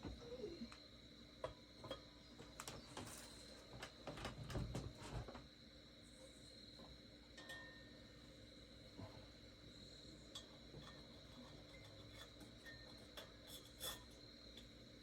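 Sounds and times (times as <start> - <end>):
faint steady background hum: 0.0 - 15.0.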